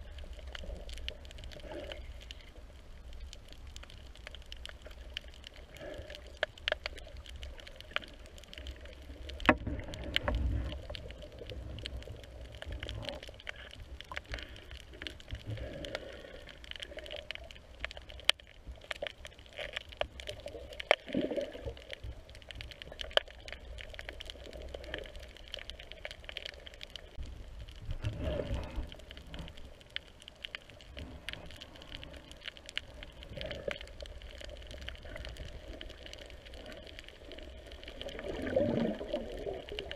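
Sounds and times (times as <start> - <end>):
crackle of sharp clicks: 0.0 - 39.9.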